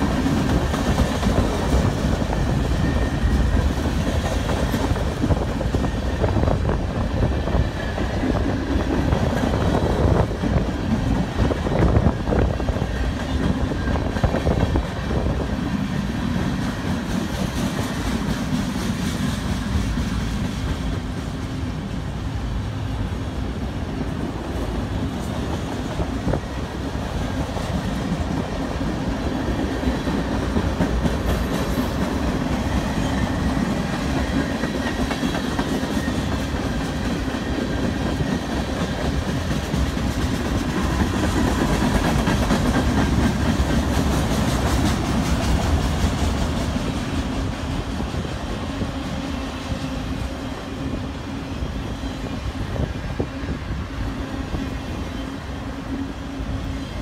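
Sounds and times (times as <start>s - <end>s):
freight train cars rolling on rails: 0.0s - 57.0s.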